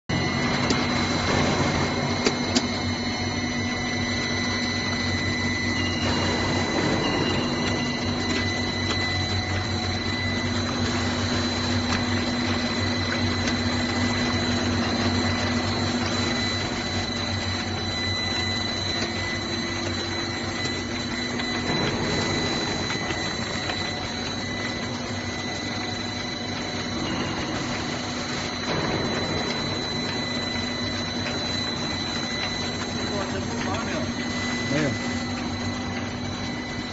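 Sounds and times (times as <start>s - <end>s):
high machine whine: 0.0s - 36.9s
low machine hum: 0.1s - 36.9s
mechanical clatter: 5.8s - 36.9s.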